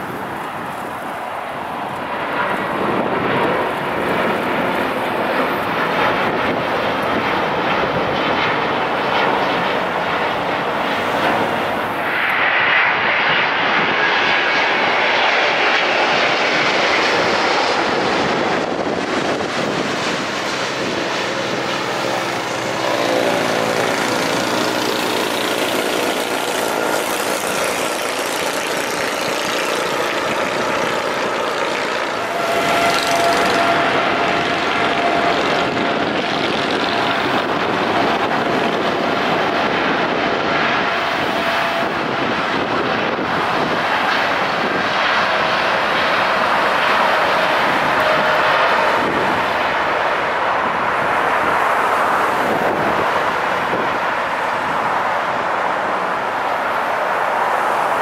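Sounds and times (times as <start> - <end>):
jet airliner passing: 0.0 - 58.0.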